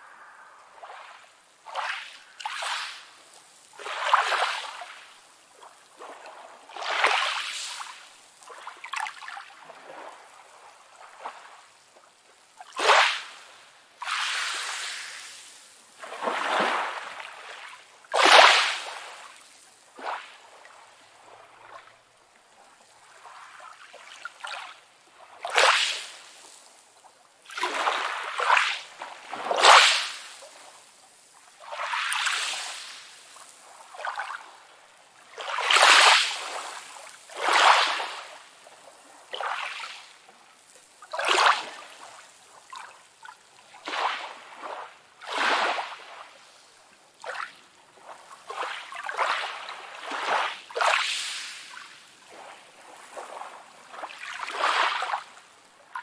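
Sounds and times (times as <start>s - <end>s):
small waves splashing: 0.0s - 56.0s.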